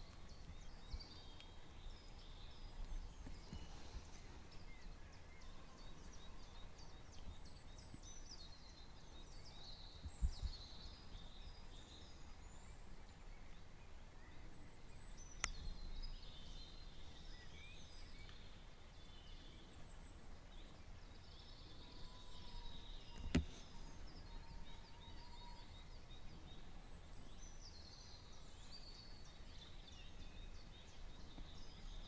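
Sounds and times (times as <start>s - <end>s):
birds chirping and trilling: 0.0s - 32.0s.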